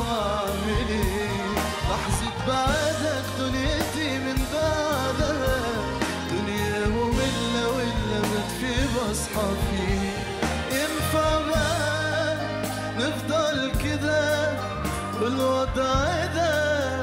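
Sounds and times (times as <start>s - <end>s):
drums: 0.0s - 17.0s
man singing into a microphone: 0.0s - 17.0s
sustained bass: 0.0s - 17.0s.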